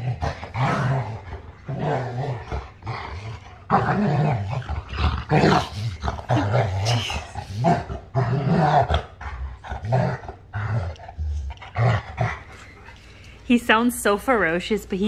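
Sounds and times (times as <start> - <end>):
dog growling in play: 0.0 - 13.0.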